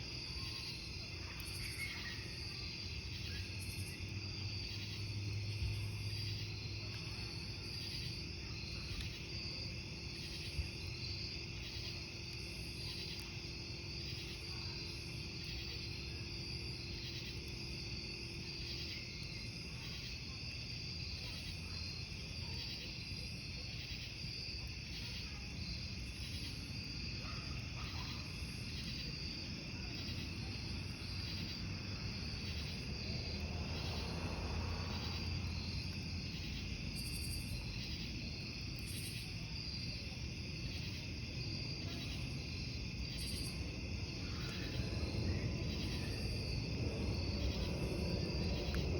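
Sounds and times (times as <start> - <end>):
campfire burning: 0.0 - 48.9
crickets chirping: 0.0 - 48.9.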